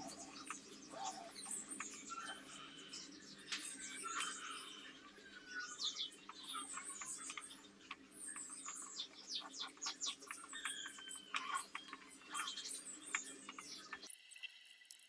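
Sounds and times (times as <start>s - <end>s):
birds chirping: 0.0s - 14.1s.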